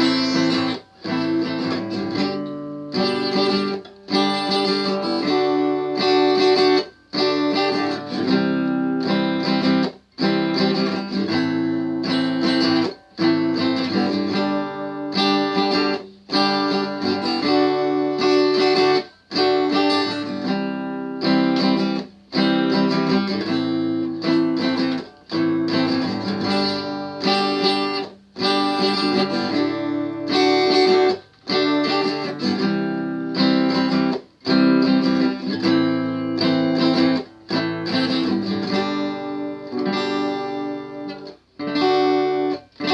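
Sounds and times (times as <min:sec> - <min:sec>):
guitar strumming chords: 0:00.0 - 0:42.9.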